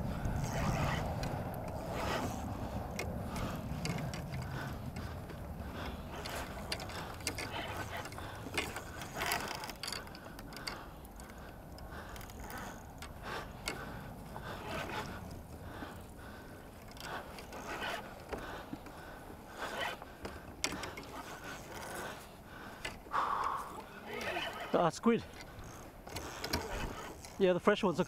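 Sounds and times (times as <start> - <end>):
fishing tackle scraping and clicking: 0.0 - 28.0.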